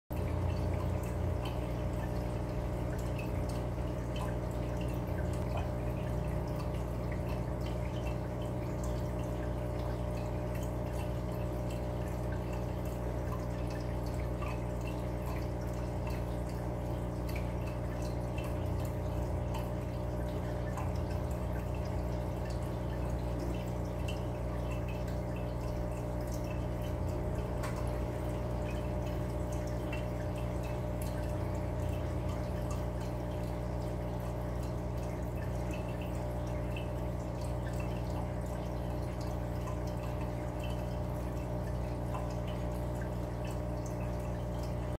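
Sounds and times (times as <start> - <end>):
aquarium bubbles bursting: 0.1 - 45.0
low pump hum: 0.1 - 45.0.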